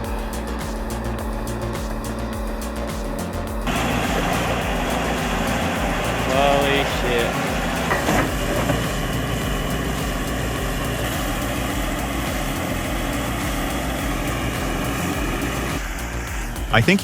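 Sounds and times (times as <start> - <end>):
diesel engine droning under load: 0.0 - 17.0.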